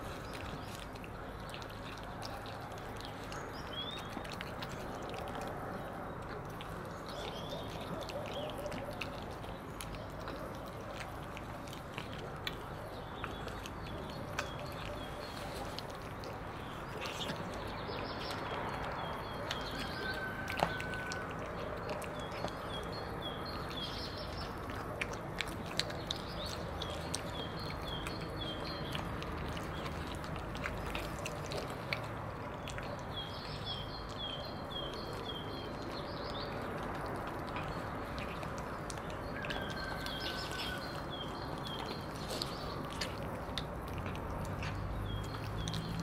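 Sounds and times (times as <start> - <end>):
cats chewing wet food: 0.0 - 46.0.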